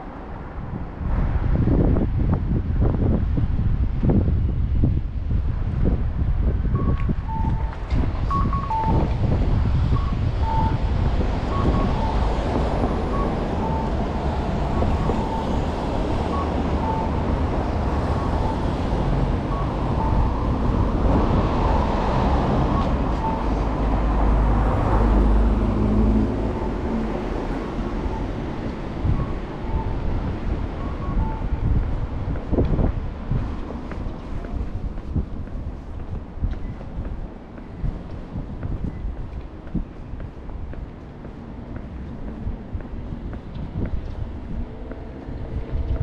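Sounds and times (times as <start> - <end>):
rumble of vehicles: 0.0 - 46.0
wind on microphone: 0.0 - 46.0.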